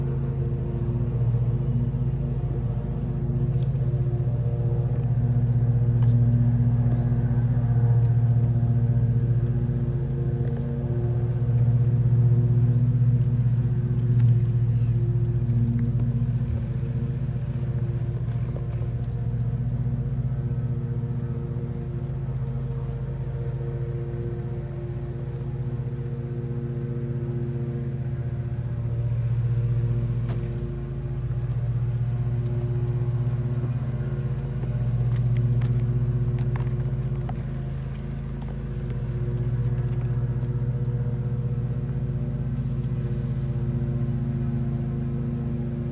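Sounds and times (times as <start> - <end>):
motor humming: 0.0 - 43.4.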